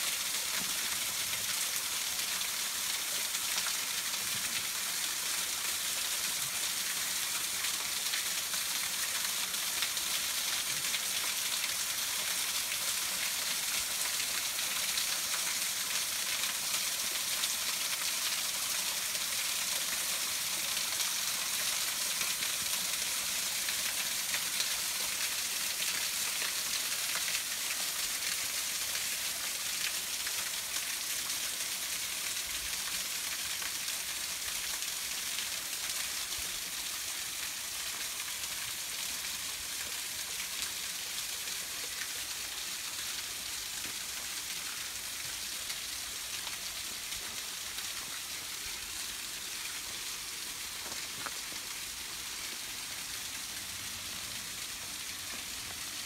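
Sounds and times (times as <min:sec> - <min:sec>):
waterfall splashing onto stones: 0:00.0 - 0:56.0.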